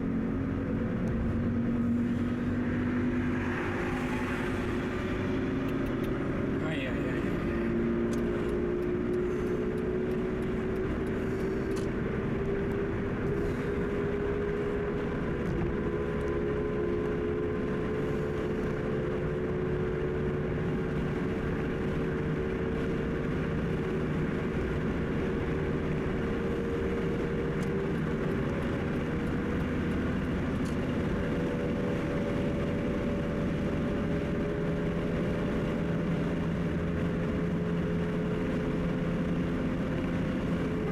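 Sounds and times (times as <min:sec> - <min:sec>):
car engine at highway speed: 0:00.0 - 0:40.9
tyre road noise: 0:00.0 - 0:40.9.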